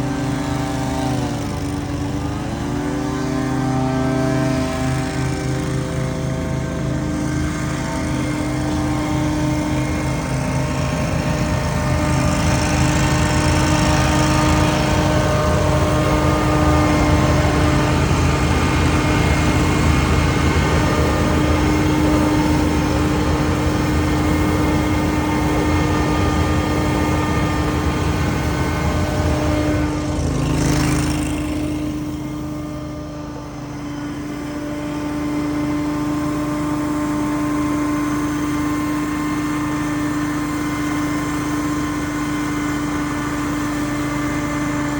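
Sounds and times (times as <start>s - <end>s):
power equipment engine droning: 0.0s - 44.9s.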